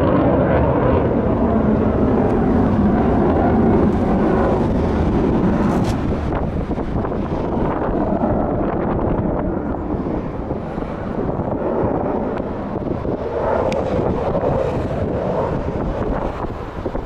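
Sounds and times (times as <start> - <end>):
jet engine rumbling: 0.0 - 17.0
wind buffeting microphone: 0.0 - 17.0.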